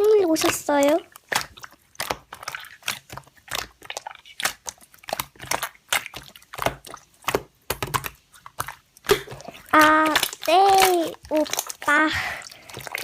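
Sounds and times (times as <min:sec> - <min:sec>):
slime squished by hand: 0:00.0 - 0:13.0.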